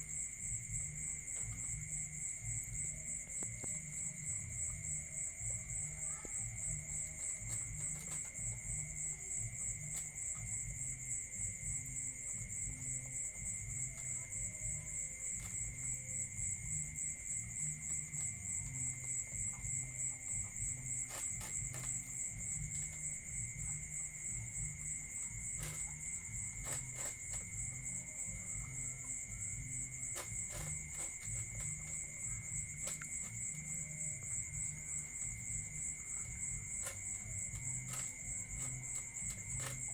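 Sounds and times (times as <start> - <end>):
crickets trilling: 0.0 - 39.9
low uneven pulsing: 0.0 - 39.9.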